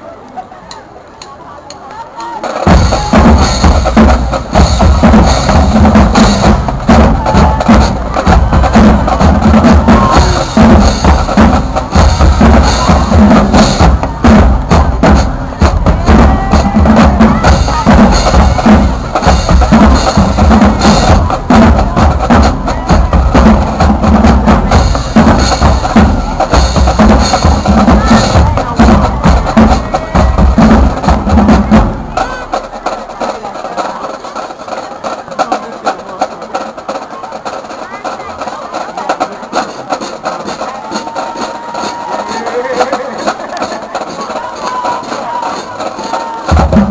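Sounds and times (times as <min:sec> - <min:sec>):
drumline playing snare and bass: 0:02.1 - 0:46.9.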